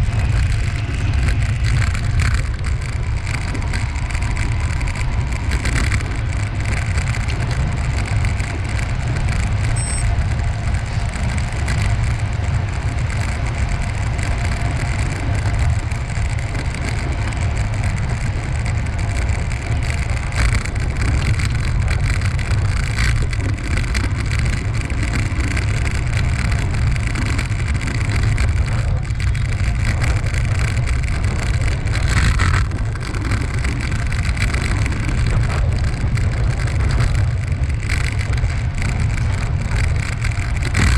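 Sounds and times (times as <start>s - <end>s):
rolling road noise: 0.0s - 40.9s
wind buffeting microphone: 0.0s - 40.9s.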